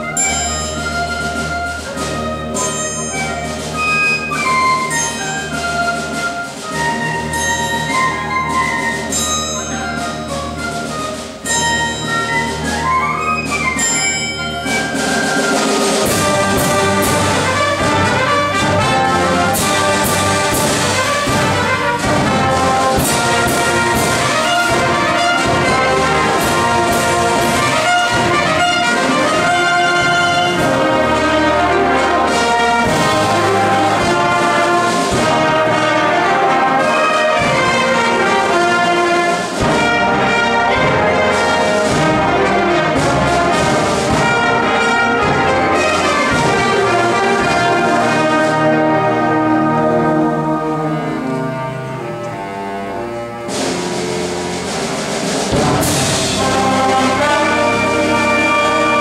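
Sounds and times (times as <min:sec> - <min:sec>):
brass section: 0:00.0 - 0:59.0
wind band playing: 0:00.0 - 0:59.0.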